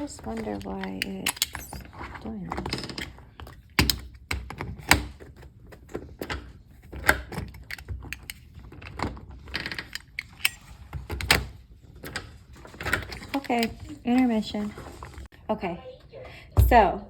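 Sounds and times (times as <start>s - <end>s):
door knob parts clicking and rattling: 0.0s - 14.7s.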